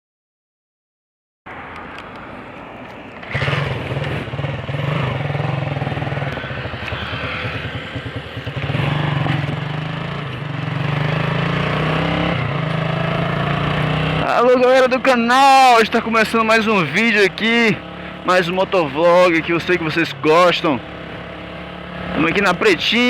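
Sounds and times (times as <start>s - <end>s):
motorcycle engine revving: 1.5s - 23.0s.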